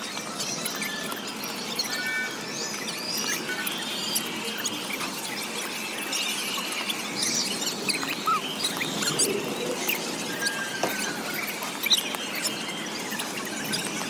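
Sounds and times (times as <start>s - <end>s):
high-pitched squeaks and chirps: 0.1s - 14.0s.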